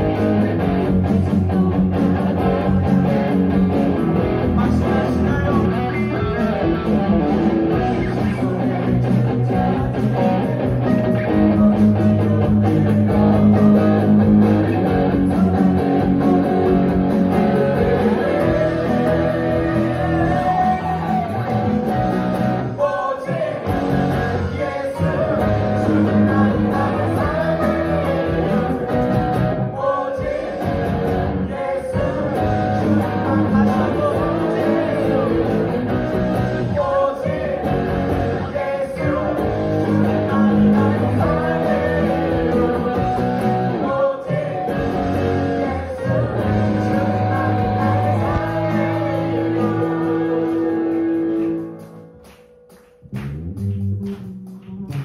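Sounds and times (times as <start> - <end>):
person singing: 0.0 - 30.8, 31.5 - 51.6
rock band with electric guitar: 0.0 - 55.0.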